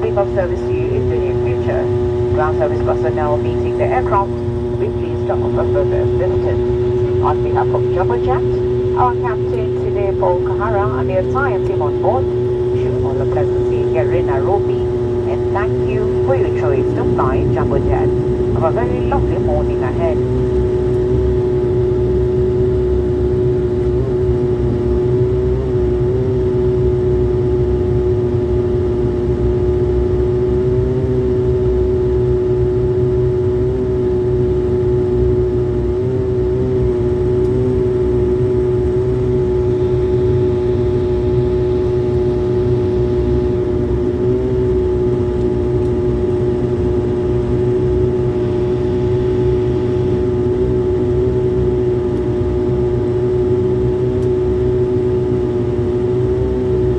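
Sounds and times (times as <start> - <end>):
airliner engines droning in cabin: 0.0 - 56.9.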